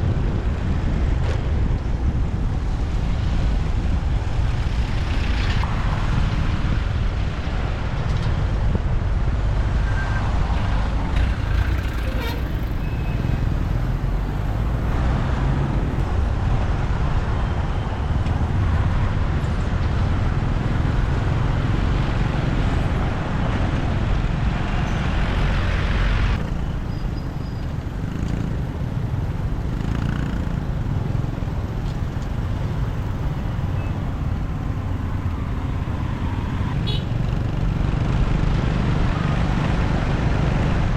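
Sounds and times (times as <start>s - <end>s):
motorbike engine and road rumble: 0.0s - 40.9s
surrounding traffic: 0.0s - 40.9s.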